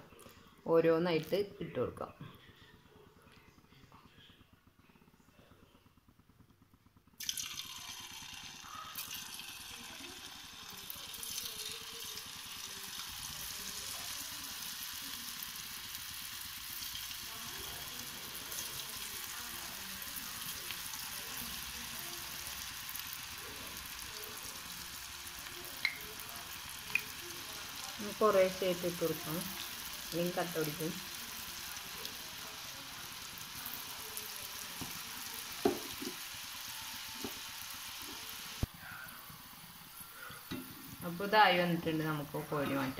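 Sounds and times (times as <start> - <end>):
deep-frying sizzle and crackle: 7.2 - 42.9.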